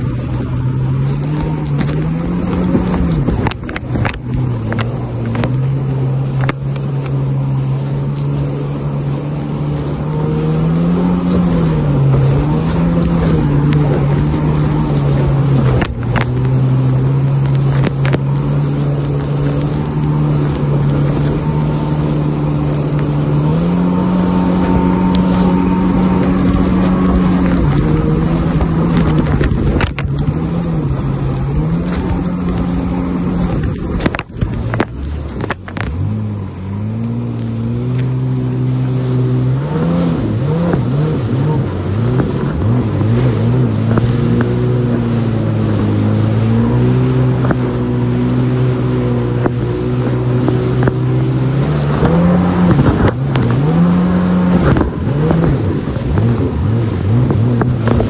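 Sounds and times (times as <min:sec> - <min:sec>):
jet ski engine drone: 0:00.0 - 0:58.0.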